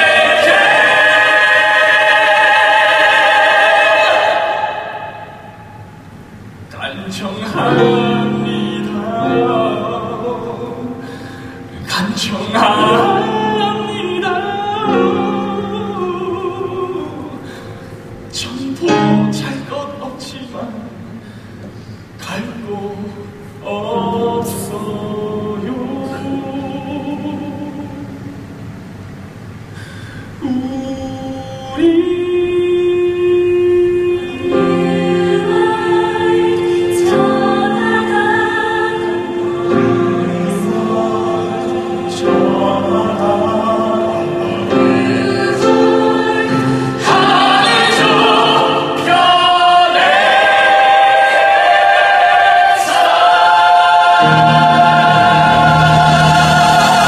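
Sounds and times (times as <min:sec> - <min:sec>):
ensemble singing in chorus: 0:00.0 - 0:20.6, 0:22.0 - 0:29.7, 0:30.3 - 0:57.0.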